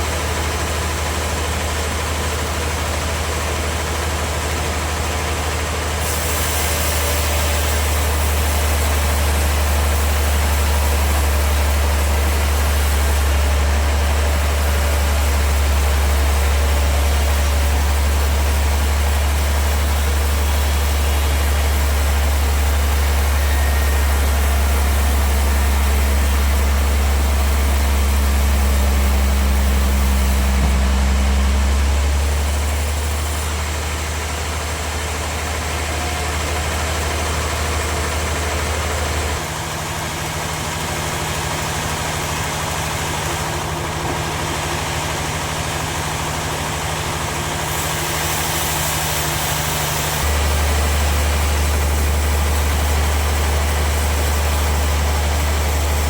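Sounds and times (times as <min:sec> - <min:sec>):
sawmill machinery hum: 0:00.0 - 0:56.0
machinery rushing noise: 0:06.0 - 0:56.0.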